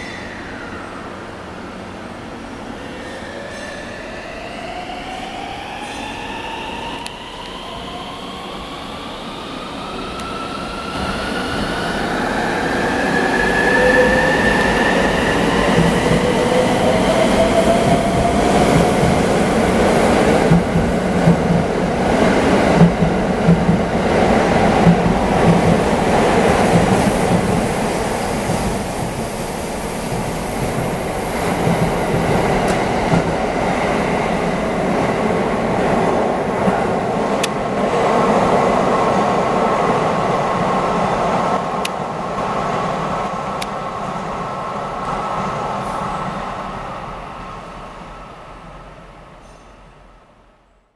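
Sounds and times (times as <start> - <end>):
electric train accelerating: 0.0 - 44.0.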